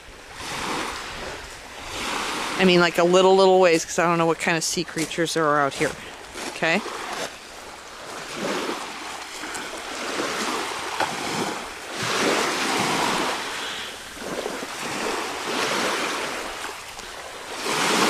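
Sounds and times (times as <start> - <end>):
small waves on pebble beach: 0.0 - 18.0.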